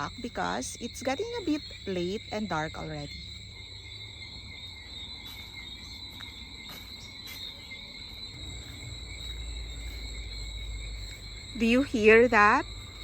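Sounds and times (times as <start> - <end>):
whistling frogs chorus: 0.0 - 13.0.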